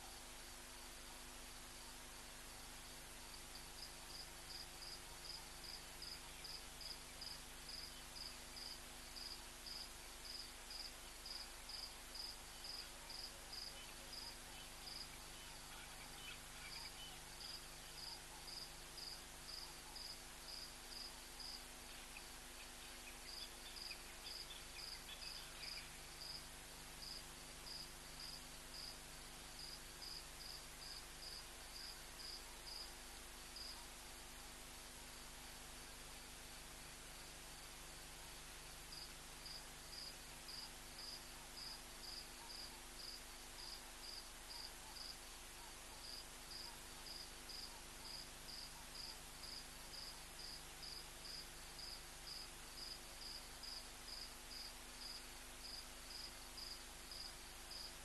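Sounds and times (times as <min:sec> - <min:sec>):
faint hiss: 0:00.0 - 0:58.0
faint insect calls: 0:00.0 - 0:58.0
insect chirping: 0:03.8 - 0:29.0, 0:29.6 - 0:32.9, 0:33.6 - 0:33.8, 0:38.9 - 0:58.0.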